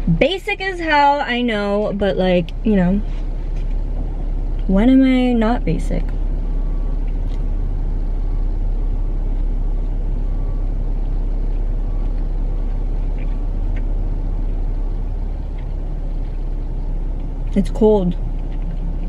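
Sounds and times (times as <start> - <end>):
car idling rumble: 0.0 - 19.0.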